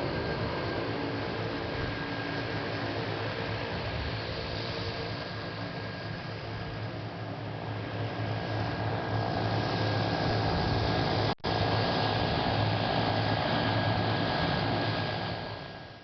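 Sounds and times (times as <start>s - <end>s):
small plane engine drone in cabin: 0.0s - 16.0s.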